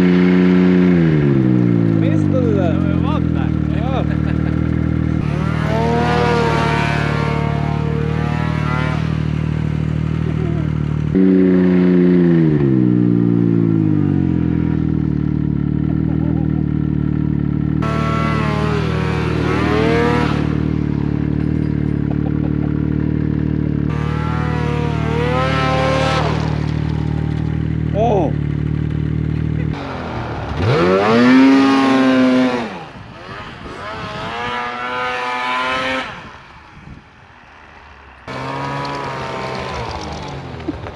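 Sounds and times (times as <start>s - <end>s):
snowmobile engine revving: 0.0s - 40.9s
snowmobile engines running: 0.0s - 40.9s.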